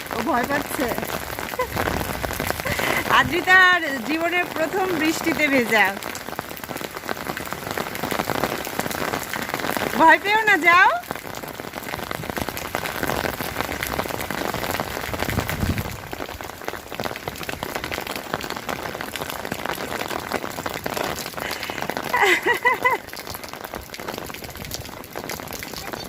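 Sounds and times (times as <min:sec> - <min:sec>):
rain splattering on surfaces: 0:00.0 - 0:26.0.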